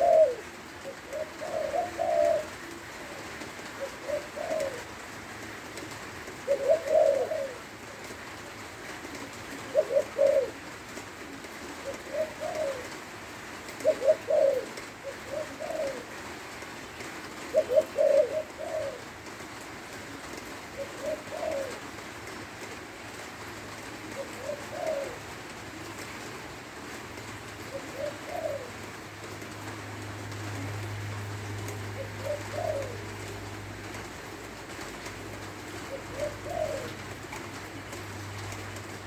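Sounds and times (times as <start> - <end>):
dove cooing: 0.0 - 39.0.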